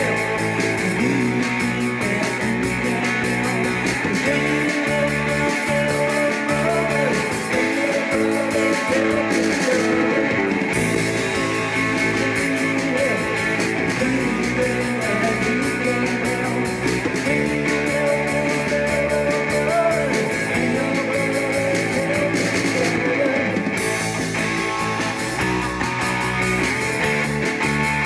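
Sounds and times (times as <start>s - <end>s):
drum kit: 0.0s - 28.0s
electric bass: 0.0s - 28.0s
electric guitar: 0.0s - 28.0s.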